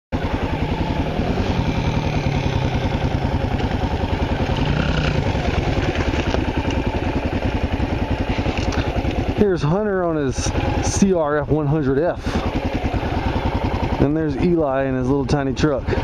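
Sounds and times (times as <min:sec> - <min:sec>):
motorcycle engine running: 0:00.1 - 0:16.0.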